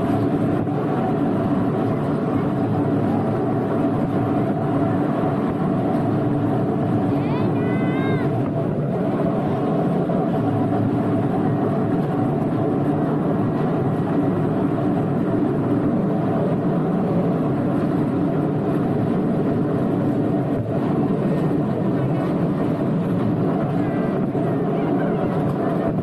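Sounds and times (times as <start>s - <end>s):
small train engine and rolling rumble: 0.0s - 26.0s.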